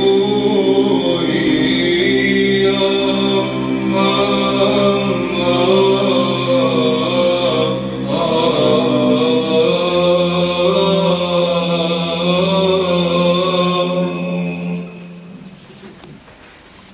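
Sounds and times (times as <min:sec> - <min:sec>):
men singing liturgical chant: 0:00.0 - 0:15.0
low sustained drone note: 0:00.0 - 0:15.7.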